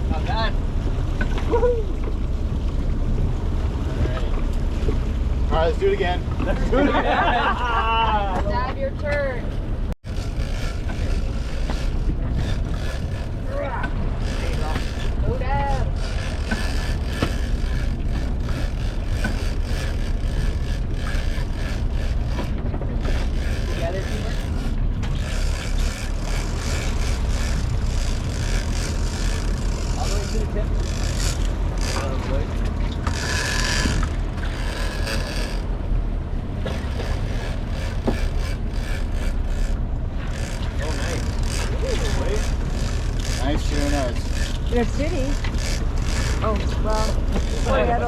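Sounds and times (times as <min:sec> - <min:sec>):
boat engine rumble: 0:00.0 - 0:48.0
water noise: 0:00.0 - 0:48.0
wind: 0:00.0 - 0:48.0.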